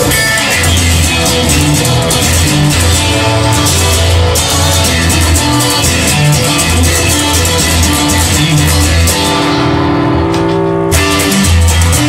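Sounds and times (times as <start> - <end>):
bass guitar: 0.0 - 12.0
drum kit: 0.0 - 12.0
electric guitar playing rock: 0.0 - 12.0.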